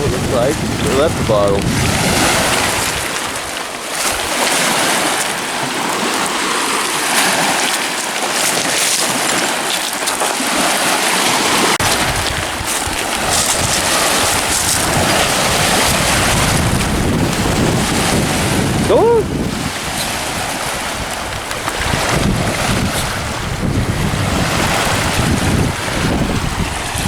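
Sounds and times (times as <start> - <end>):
wind buffeting microphone: 0.0 - 6.4, 11.4 - 27.0
lake waves washing on shore: 0.0 - 27.0.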